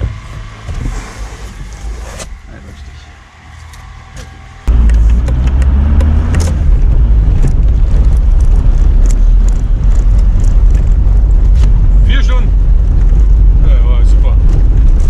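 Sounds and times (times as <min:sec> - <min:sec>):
van engine and road rumble: 0:00.0 - 0:15.0.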